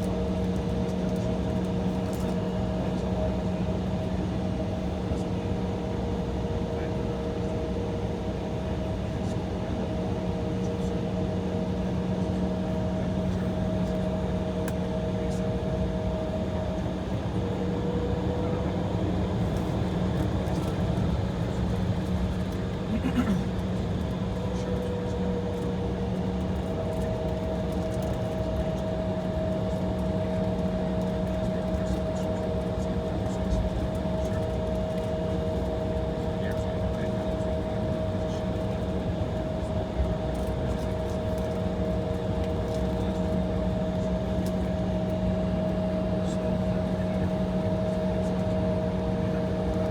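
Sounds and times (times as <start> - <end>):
aircraft cabin hum: 0.0 - 49.9.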